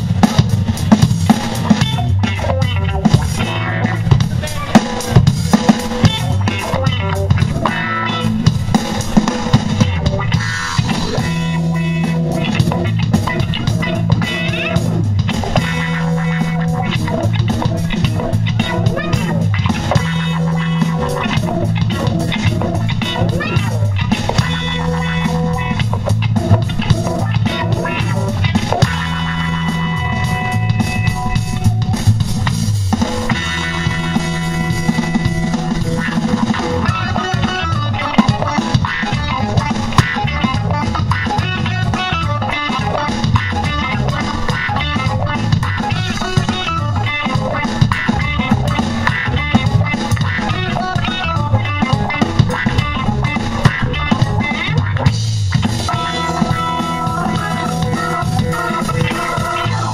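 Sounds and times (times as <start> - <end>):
funk band playing: 0.0 - 59.9
low bass notes: 0.0 - 59.9.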